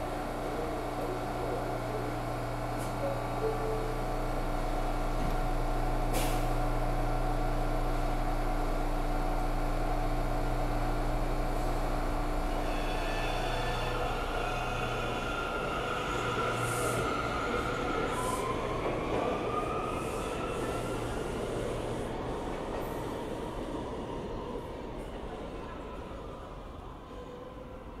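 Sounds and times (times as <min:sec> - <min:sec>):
subway train low hum: 0:00.0 - 0:28.0.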